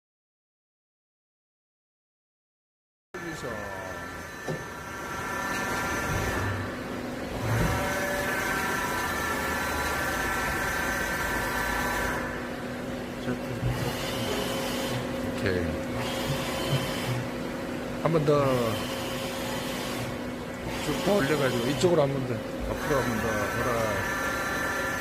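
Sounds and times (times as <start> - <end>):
lathe drives whining: 3.2 - 25.0
low machine hum: 3.2 - 25.0.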